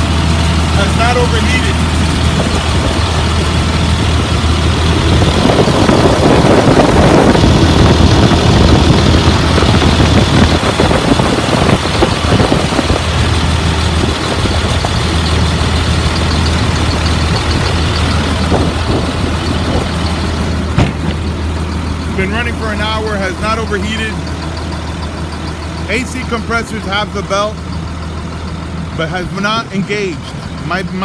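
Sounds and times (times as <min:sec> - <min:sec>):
bus engine idling: 0:00.0 - 0:31.0
loud rough noise: 0:00.0 - 0:31.0.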